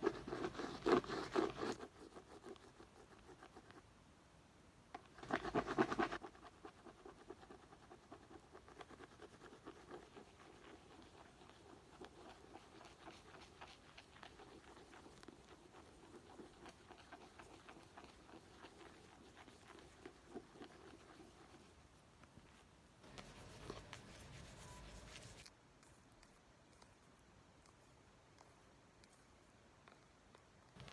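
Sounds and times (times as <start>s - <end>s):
scratching and tapping on book: 0.0s - 3.8s, 5.0s - 22.4s, 23.0s - 27.0s.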